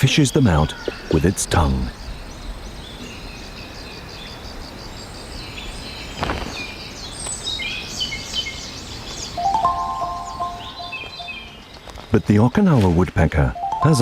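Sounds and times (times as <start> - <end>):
birds singing and calling: 0.0 - 14.0.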